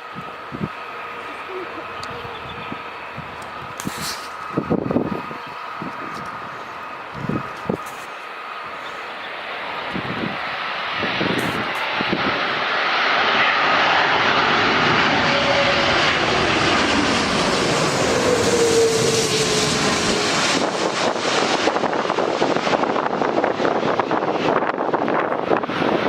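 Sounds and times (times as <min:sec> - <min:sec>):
wind buffeting microphone: 0:00.0 - 0:08.0, 0:09.8 - 0:12.7, 0:14.2 - 0:26.0
aircraft flying low overhead: 0:00.0 - 0:26.0.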